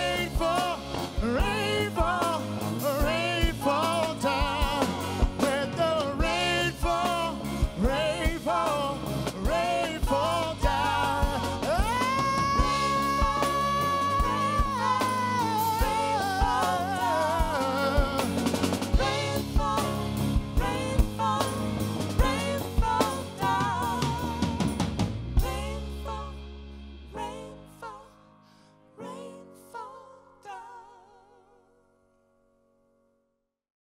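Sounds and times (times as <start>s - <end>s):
rock band playing: 0.0s - 27.7s.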